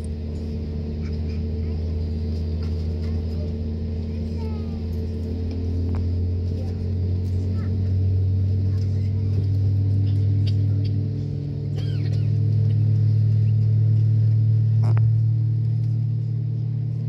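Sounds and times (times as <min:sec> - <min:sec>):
aircraft cabin hum: 0:00.0 - 0:17.0.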